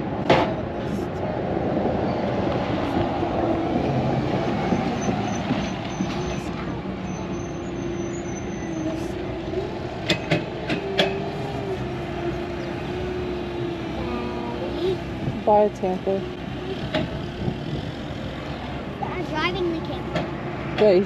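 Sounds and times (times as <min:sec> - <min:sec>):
vehicle road and engine noise: 0:00.0 - 0:21.0.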